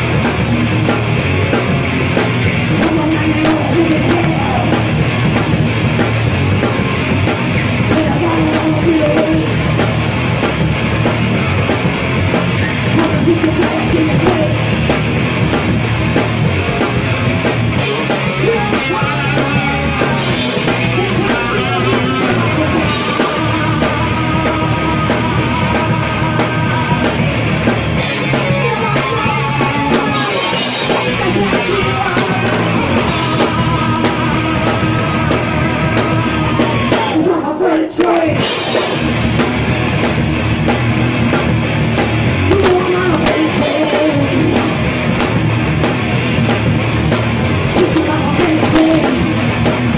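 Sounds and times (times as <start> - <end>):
hard rock band playing: 0.0 - 49.9.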